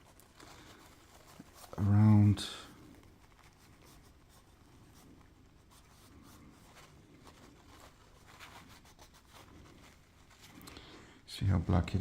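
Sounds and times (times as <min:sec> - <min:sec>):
faint rubbing with scratchy ticks: 0:00.0 - 0:10.7.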